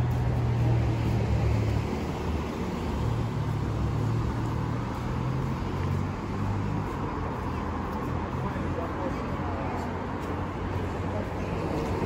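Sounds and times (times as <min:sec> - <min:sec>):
car engines: 0:00.0 - 0:12.0
tyres on the road: 0:00.0 - 0:12.0.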